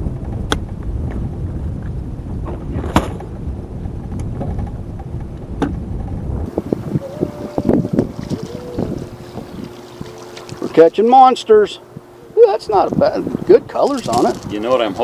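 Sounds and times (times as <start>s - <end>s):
low rumbling on a boat: 0.0s - 15.0s.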